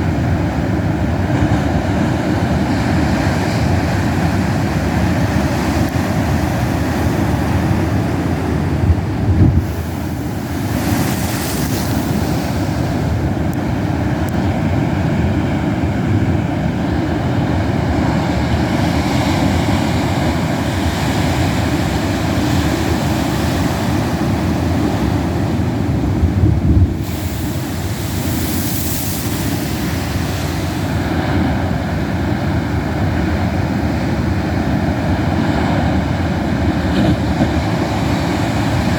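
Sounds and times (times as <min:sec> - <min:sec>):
hissing wash of surf: 0:00.0 - 0:38.9
waves breaking against cliffs: 0:00.0 - 0:38.9.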